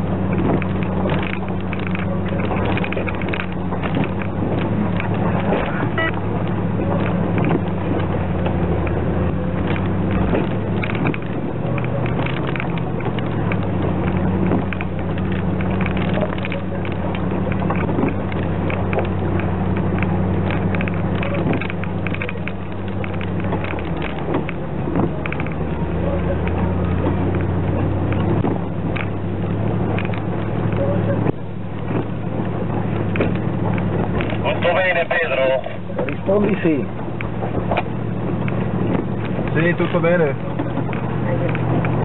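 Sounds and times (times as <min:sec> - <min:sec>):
engine running at low revs: 0:00.0 - 0:42.0
stones crunching under tyres: 0:00.0 - 0:42.0
vehicle body rattling: 0:00.0 - 0:42.0.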